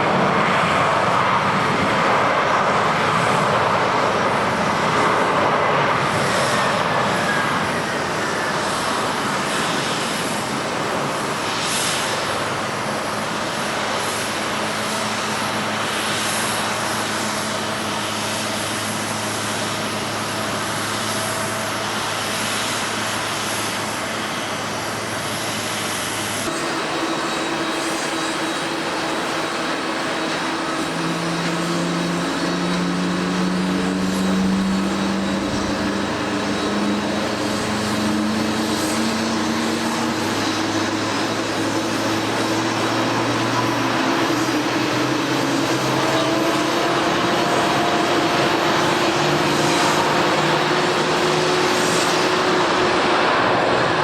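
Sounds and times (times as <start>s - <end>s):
droning jet engine tones: 0.0s - 54.0s
jet engines rushing: 0.0s - 54.0s.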